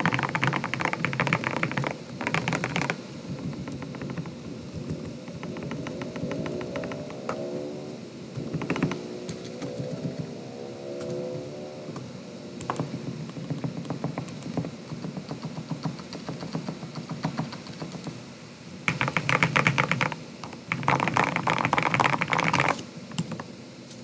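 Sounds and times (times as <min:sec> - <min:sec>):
mechanical keyboard typing: 0:00.0 - 0:07.3, 0:08.4 - 0:10.3, 0:12.6 - 0:18.1, 0:18.9 - 0:23.4.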